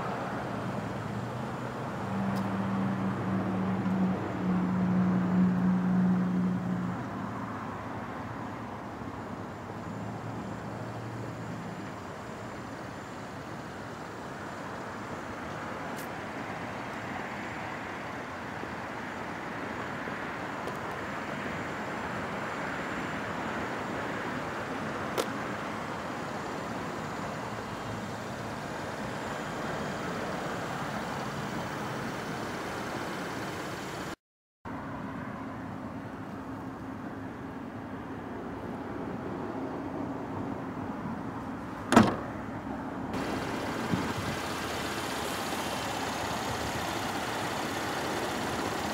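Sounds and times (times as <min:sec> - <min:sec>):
road traffic noise: 0:00.0 - 0:48.9.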